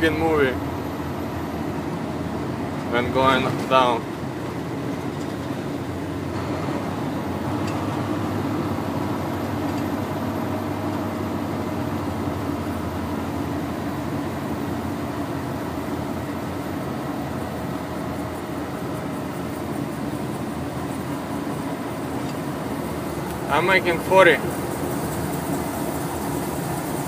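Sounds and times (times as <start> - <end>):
truck diesel engine drone: 0.0 - 27.0.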